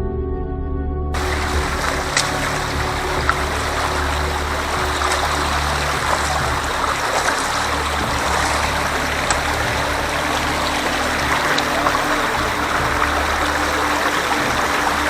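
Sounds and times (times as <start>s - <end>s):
stream water rushing: 1.2s - 15.0s.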